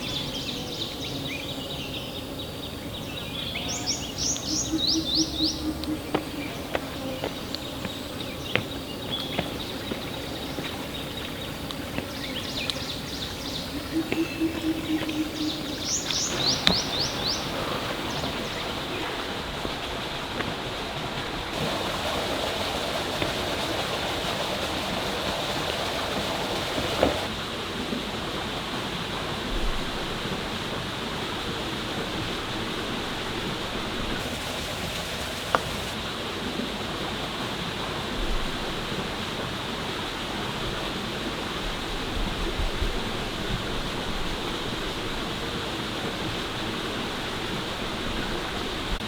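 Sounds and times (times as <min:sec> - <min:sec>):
waterfall rushing: 0:03.5 - 0:49.0.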